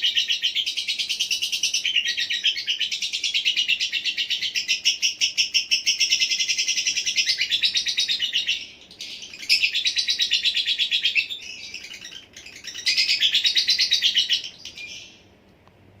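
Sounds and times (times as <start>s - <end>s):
bird chattering chirps: 0.0s - 15.3s.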